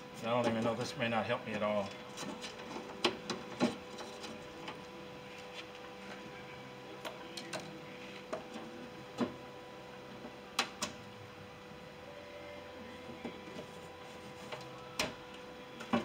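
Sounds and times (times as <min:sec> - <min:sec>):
faint hum: 0:00.8 - 0:16.0.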